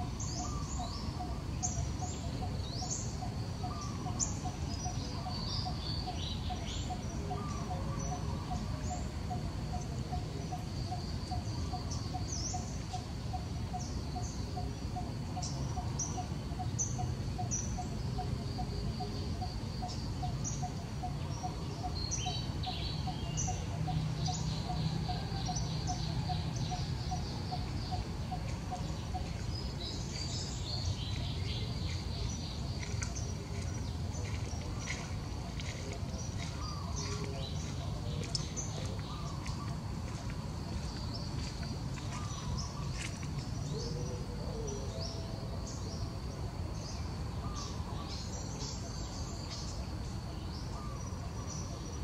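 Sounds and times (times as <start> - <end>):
birds chirping: 0.0 - 52.0
constant low rumble: 0.0 - 52.0.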